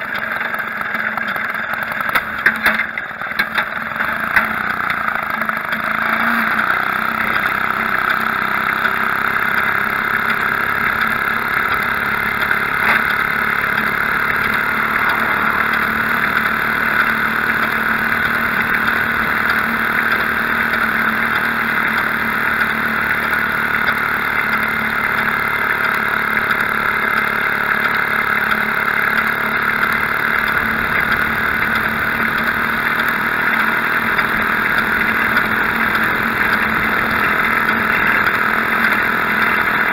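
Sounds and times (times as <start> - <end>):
two-stroke motorbike engine running: 0.0 - 39.9.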